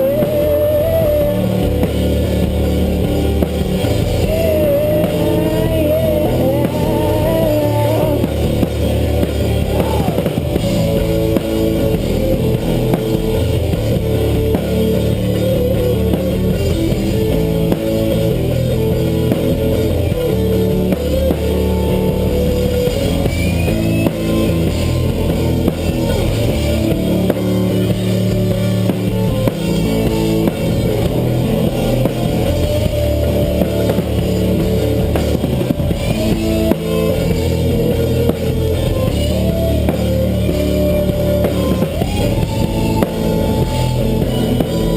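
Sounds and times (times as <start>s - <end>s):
bass: 0.0s - 44.9s
drum kit: 0.0s - 44.9s
guitar: 0.0s - 44.9s.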